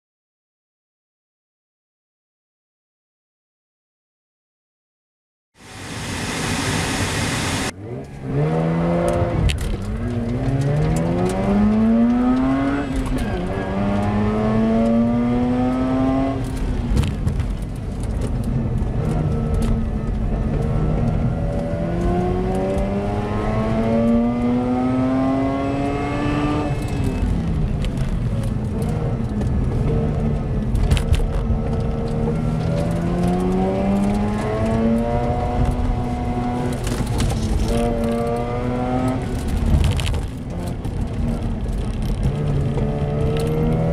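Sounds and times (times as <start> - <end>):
rotary engine accelerating: 5.7 - 16.9, 18.7 - 43.9.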